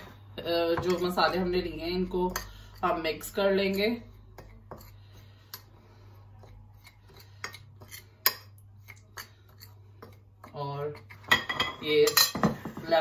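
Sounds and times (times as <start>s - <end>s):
spoon scraping spices: 0.4s - 13.0s.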